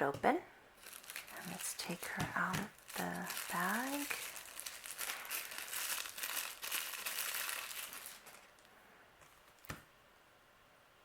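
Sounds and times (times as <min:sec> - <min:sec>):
plastic bag crinkling: 0:00.8 - 0:09.8.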